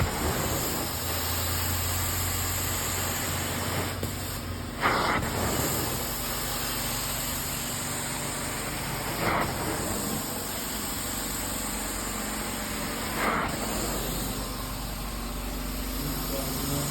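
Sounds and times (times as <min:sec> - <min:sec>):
carpet cleaning machine hissing: 0:00.0 - 0:16.9.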